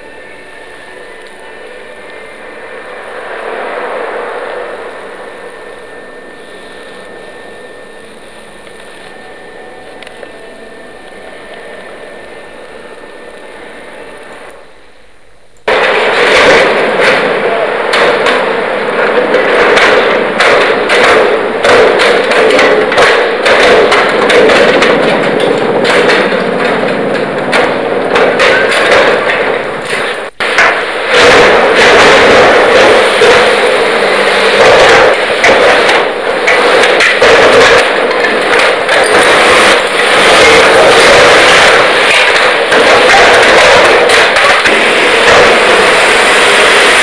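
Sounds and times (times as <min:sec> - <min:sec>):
metal cladding demolition bangs: 0:00.0 - 0:14.9, 0:15.6 - 0:47.0
low steady hum: 0:00.0 - 0:47.0.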